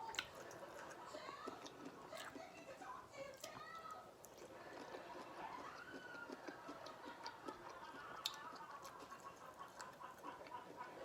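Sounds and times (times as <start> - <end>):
chewing and smacking: 0.0 - 11.0.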